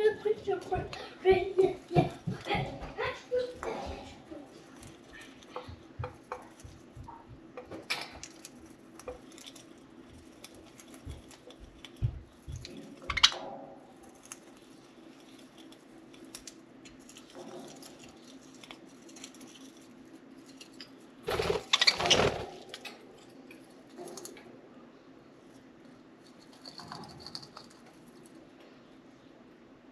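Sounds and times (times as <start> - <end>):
beaks chewing wood: 0.0 - 24.4.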